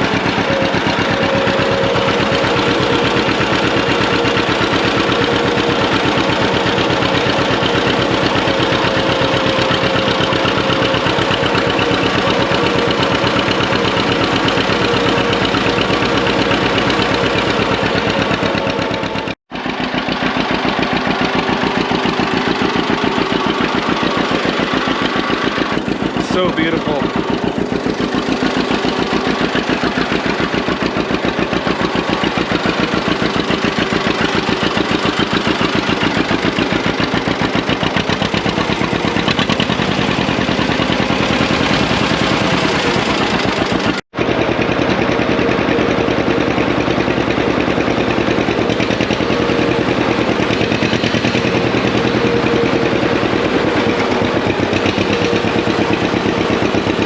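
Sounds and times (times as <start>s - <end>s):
tractor engine popping exhaust: 0.0s - 57.0s.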